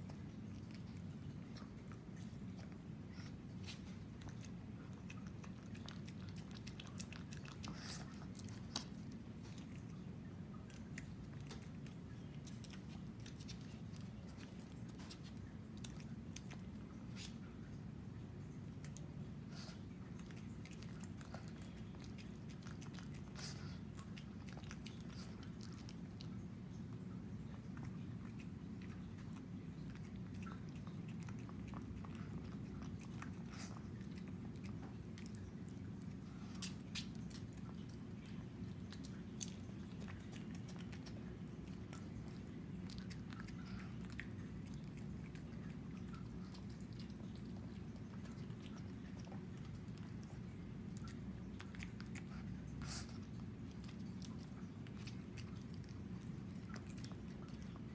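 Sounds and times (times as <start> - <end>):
dog chewing and licking: 0.0 - 57.9
steady low hum: 0.0 - 57.9.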